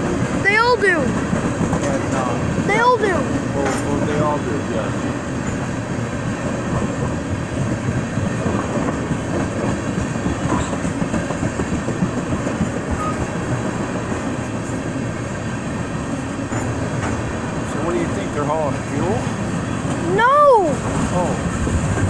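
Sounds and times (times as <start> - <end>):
freight train rolling past: 0.0 - 22.0.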